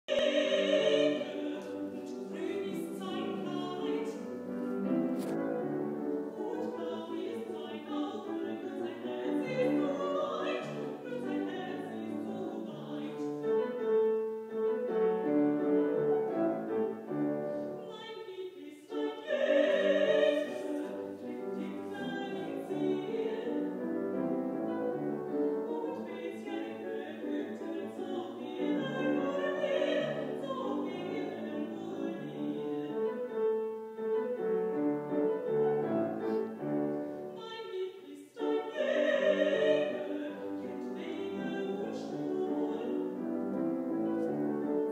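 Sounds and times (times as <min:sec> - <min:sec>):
piano accompaniment: 0:00.0 - 0:44.9
woman singing opera: 0:00.1 - 0:44.9.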